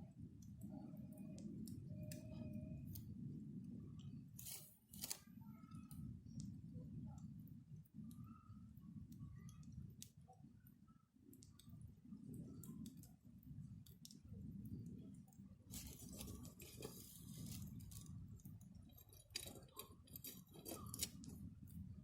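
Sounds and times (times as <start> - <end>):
faint low rumble: 0.0 - 22.0.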